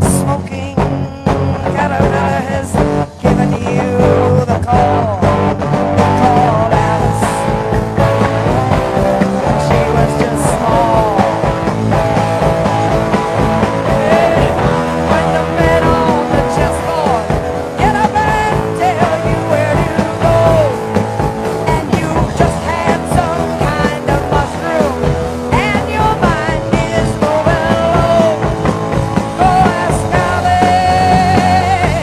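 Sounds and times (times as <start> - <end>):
person singing: 0.0 - 32.0
rock band playing: 0.0 - 32.0.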